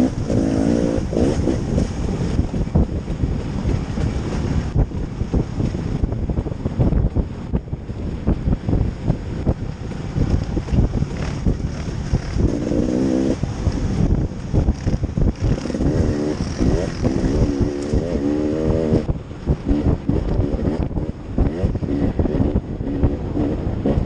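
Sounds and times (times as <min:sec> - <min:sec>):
vehicle engine revving: 0:00.0 - 0:24.0
wind buffeting microphone: 0:00.0 - 0:24.0.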